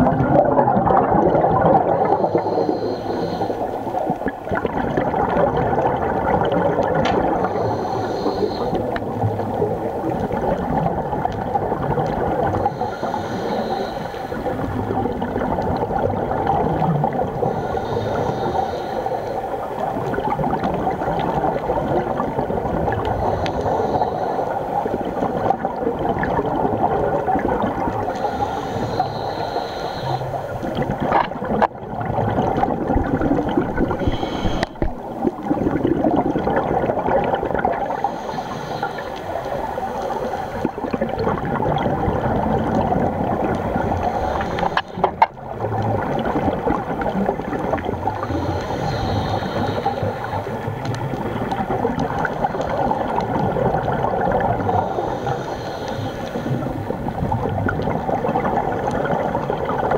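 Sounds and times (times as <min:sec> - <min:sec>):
underwater gurgling: 0:00.0 - 0:59.9.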